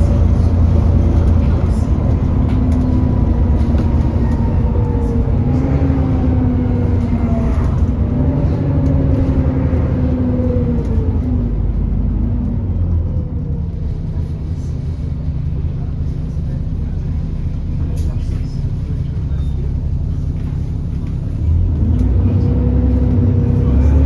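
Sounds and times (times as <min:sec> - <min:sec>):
bus engine rumble: 0:00.0 - 0:24.0.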